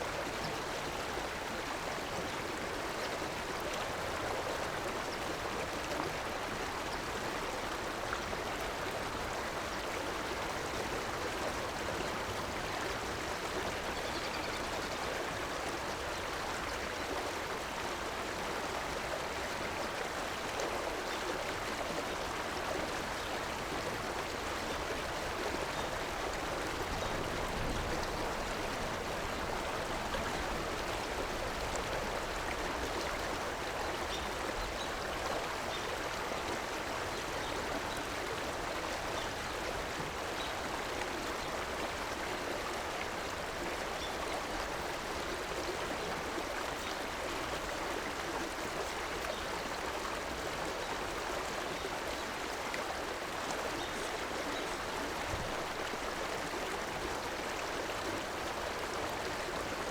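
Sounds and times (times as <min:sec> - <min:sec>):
river water rushing and gurgling: 0:00.0 - 0:59.9.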